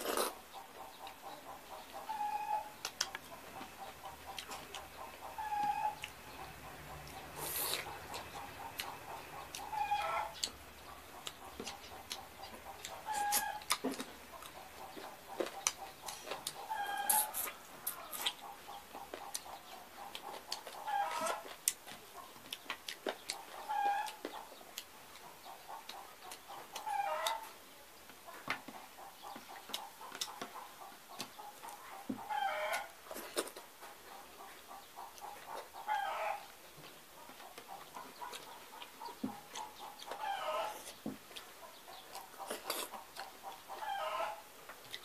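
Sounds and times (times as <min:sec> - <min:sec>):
chicken clucking: 0:00.0 - 0:45.0
chewing and lip-smacking: 0:02.8 - 0:05.3, 0:05.9 - 0:27.5, 0:28.4 - 0:35.9, 0:37.2 - 0:43.9, 0:44.7 - 0:45.0.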